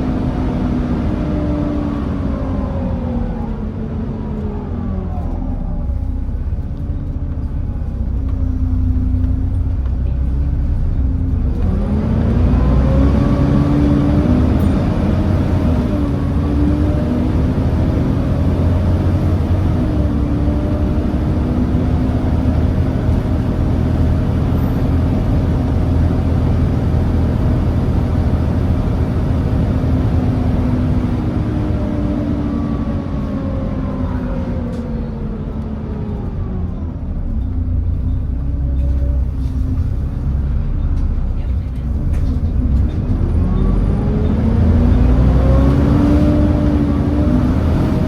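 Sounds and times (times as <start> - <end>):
bus diesel engine revving: 0.0 - 48.0.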